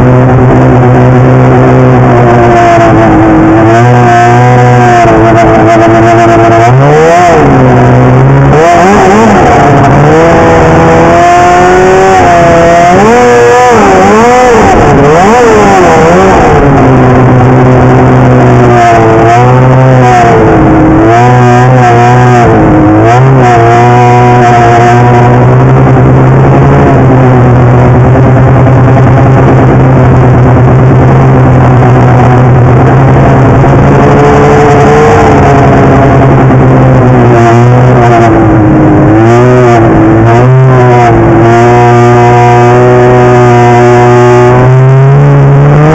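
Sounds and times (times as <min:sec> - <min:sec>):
snowmobile two-stroke engine: 0:00.0 - 0:45.9.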